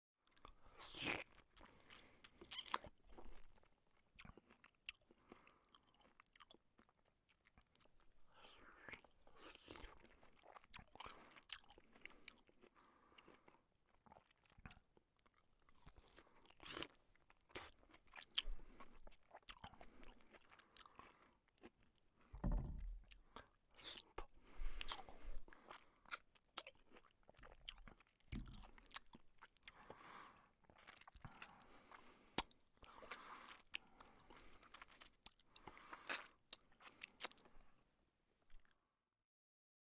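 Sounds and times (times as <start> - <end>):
person crunching and chewing: 0.3 - 22.0, 22.6 - 37.6.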